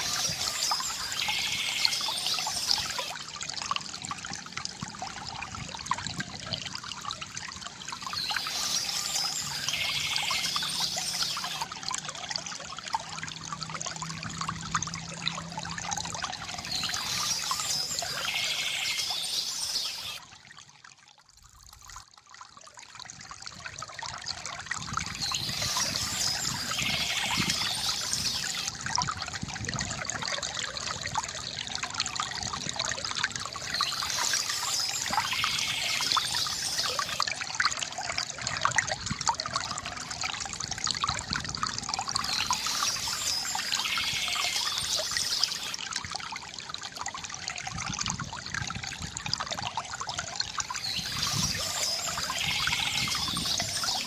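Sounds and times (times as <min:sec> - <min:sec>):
fountain water trickling: 0:00.0 - 0:54.0.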